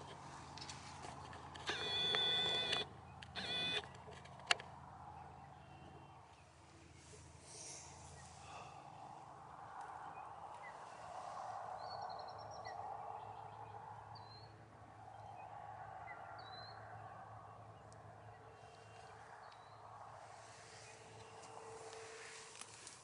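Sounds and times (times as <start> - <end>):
faint outdoor background noise: 0.0 - 23.0.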